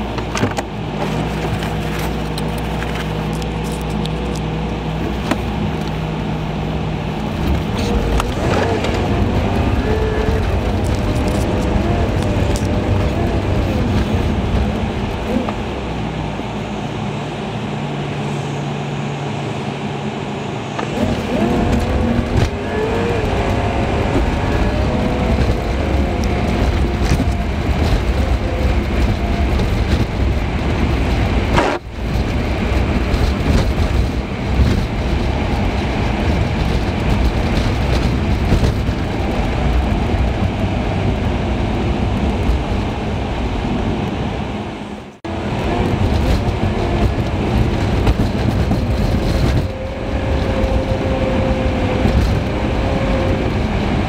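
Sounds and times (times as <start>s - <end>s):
car engine: 0.0s - 54.0s
road noise: 0.0s - 54.0s.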